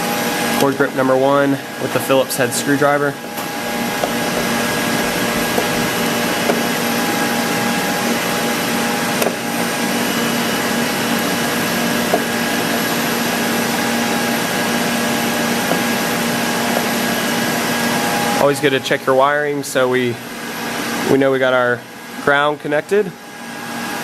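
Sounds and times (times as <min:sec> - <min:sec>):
whirring machine hum: 0:00.0 - 0:24.0.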